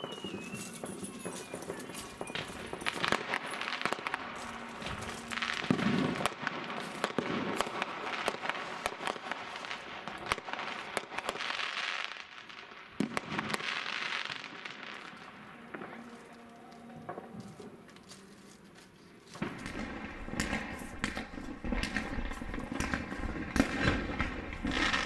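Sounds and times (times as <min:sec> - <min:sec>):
fireworks banging and crackling: 0:00.0 - 0:17.7, 0:19.3 - 0:25.0.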